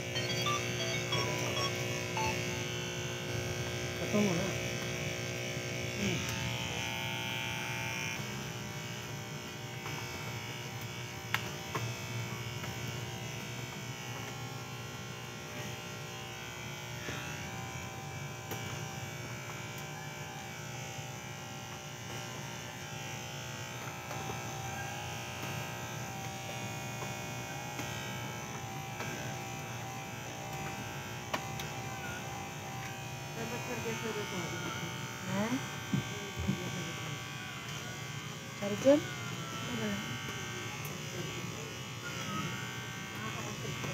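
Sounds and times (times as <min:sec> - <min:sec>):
electric hair clippers running: 0:00.0 - 0:43.9.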